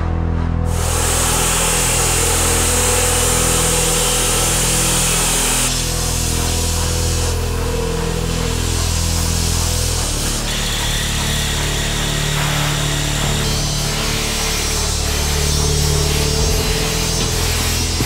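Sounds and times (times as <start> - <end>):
low steady drone: 0.0 - 18.0
chop saw grinding metal: 0.7 - 18.0.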